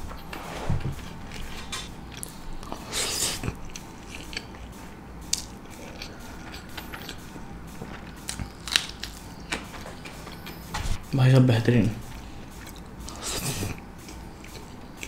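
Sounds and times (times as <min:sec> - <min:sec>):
person chewing food: 0:00.0 - 0:10.8, 0:12.0 - 0:15.0.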